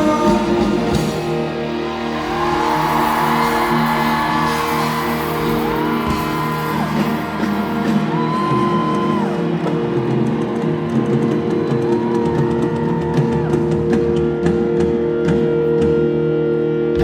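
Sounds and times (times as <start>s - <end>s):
live band music: 0.0s - 17.0s
sliding lead notes: 0.0s - 17.0s.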